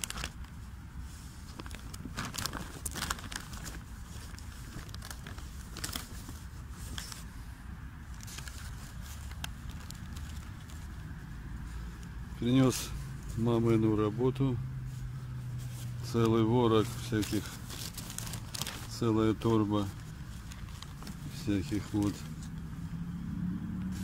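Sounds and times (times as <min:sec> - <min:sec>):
paper bag rustling and crinkling: 0:00.0 - 0:07.4, 0:08.0 - 0:14.1, 0:14.9 - 0:22.6
low steady rumble: 0:00.0 - 0:24.0.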